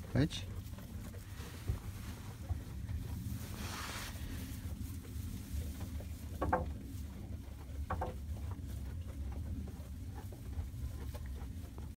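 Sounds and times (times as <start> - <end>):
low microphone rumble: 0.0 - 11.9.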